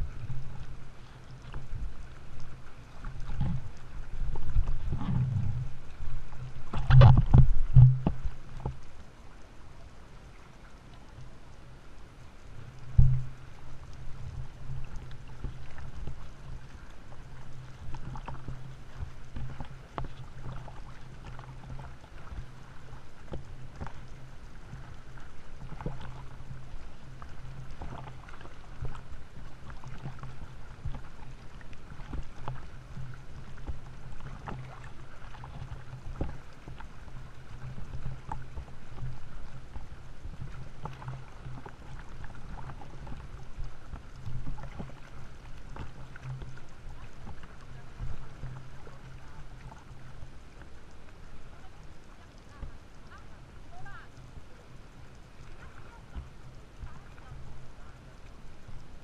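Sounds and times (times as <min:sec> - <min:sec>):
low steady hum: 0:00.0 - 0:59.0
water splashing and sloshing: 0:00.0 - 0:59.0.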